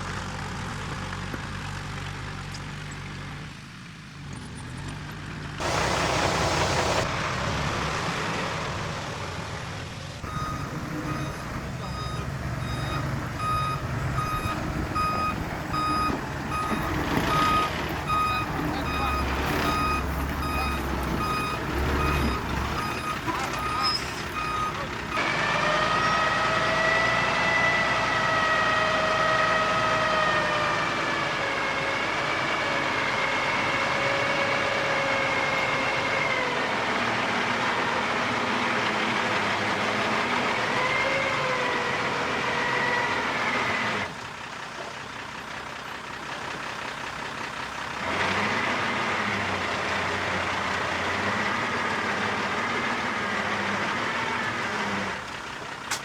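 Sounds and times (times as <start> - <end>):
diesel engine running hard: 0.0 - 56.0.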